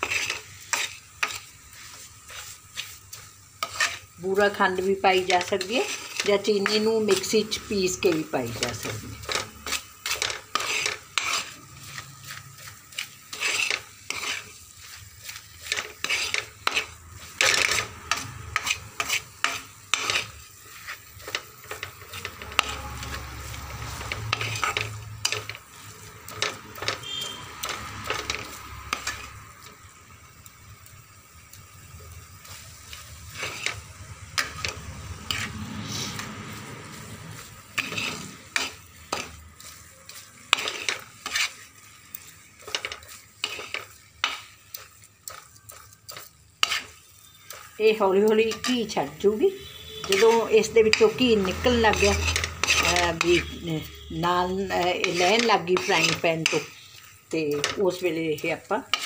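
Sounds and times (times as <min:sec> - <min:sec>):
metal spoon scraping a frying pan: 0:00.0 - 0:29.8, 0:31.2 - 0:59.0
low sizzle of frying mixture: 0:00.0 - 0:59.0.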